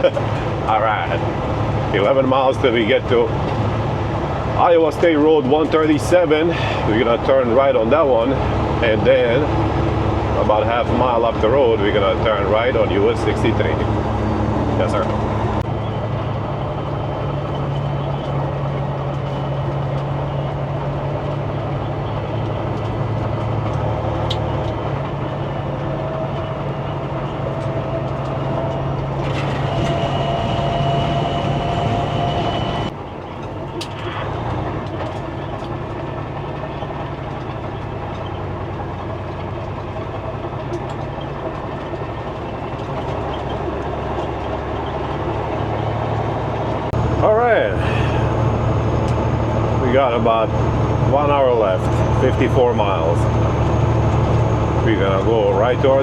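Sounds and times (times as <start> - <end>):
road noise: 0.0 - 56.0
truck diesel engine droning: 0.0 - 56.0.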